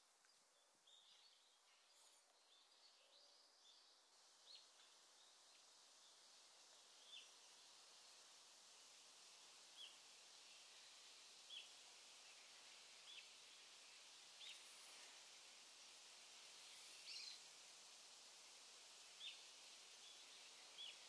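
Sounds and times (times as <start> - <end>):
steady high hiss: 0.0 - 21.0.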